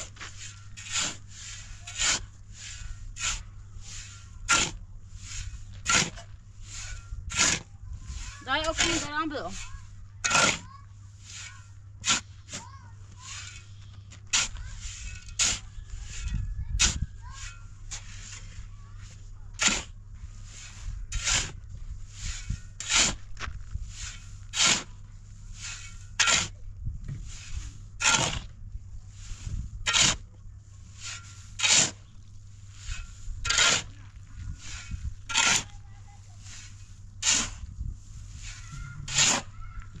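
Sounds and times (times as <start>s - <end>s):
low steady hum: 0.0s - 40.0s
short scraping strokes: 0.0s - 40.0s.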